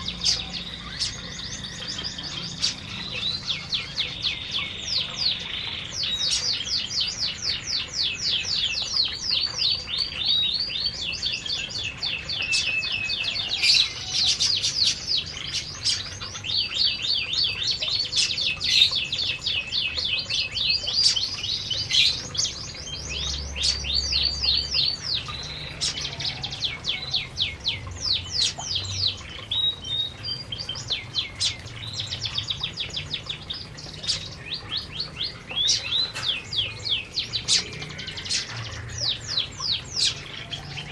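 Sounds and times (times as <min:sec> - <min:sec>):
canaries singing and chirping: 0:00.0 - 0:40.9.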